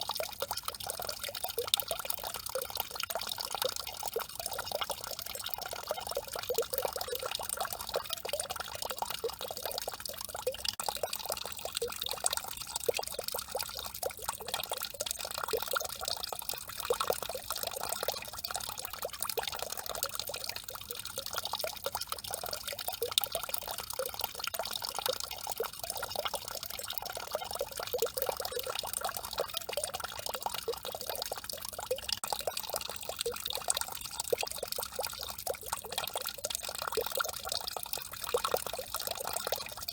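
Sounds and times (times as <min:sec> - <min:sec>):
fountain water splashing into basin: 0:00.0 - 0:39.9.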